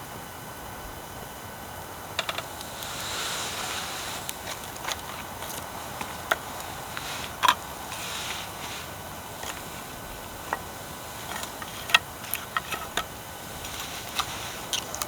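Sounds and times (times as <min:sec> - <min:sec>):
steady hiss: 0:00.0 - 0:15.0
wood fire crackling and popping: 0:02.2 - 0:15.0.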